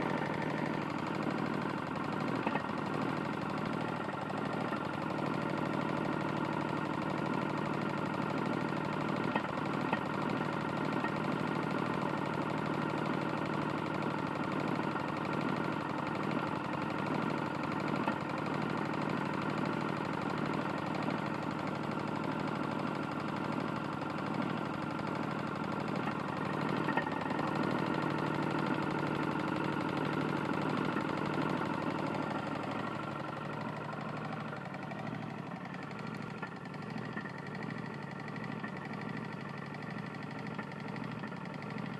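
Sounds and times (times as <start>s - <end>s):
lawn mower engine knocking: 0.0s - 41.9s.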